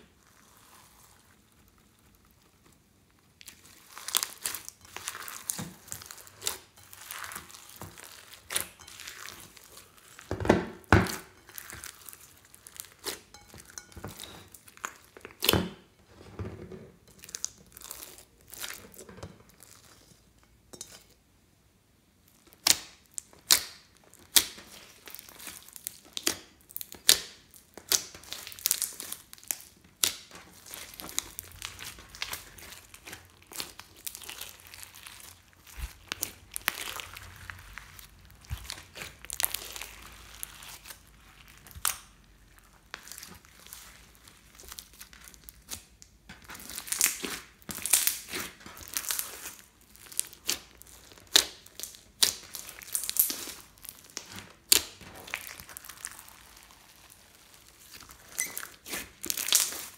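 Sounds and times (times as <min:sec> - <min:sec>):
slime crackling as squeezed: 0:00.0 - 0:15.9, 0:17.1 - 0:20.2, 0:22.2 - 0:59.9.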